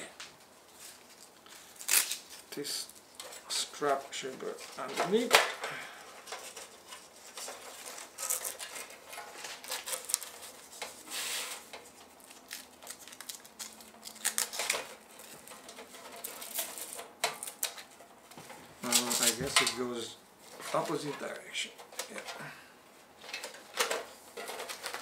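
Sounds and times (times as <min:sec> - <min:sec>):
strap rustling: 0:00.6 - 0:21.4.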